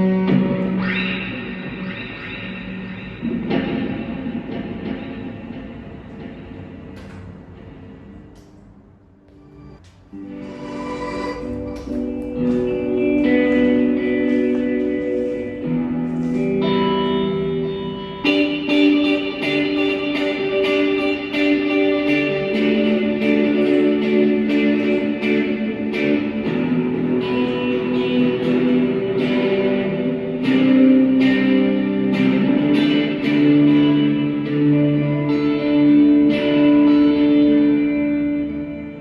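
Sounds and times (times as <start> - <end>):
plucked guitar music: 0.0 - 8.4, 9.7 - 39.0.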